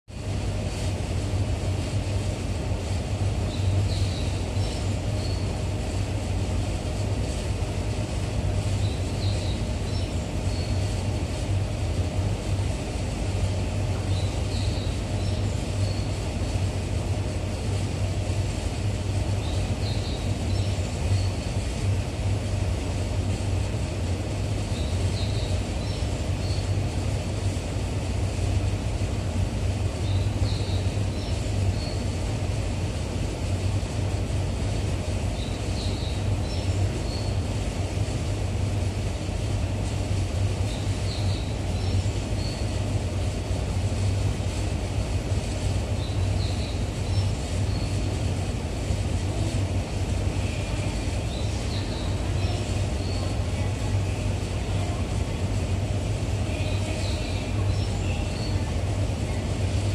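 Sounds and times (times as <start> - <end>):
low hum of subway platform: 0.0 - 59.9.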